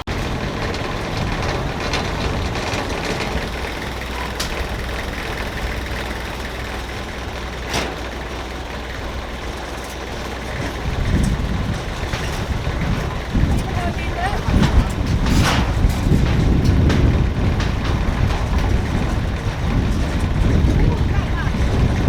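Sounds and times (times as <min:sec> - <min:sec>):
ferry engine humming: 0:00.0 - 0:22.0
wind buffeting microphone: 0:00.0 - 0:22.0.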